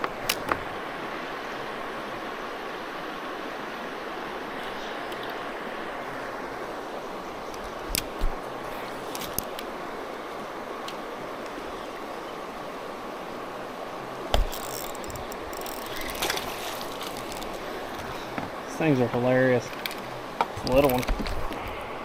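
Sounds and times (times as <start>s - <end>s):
river current rushing: 0.0s - 22.0s.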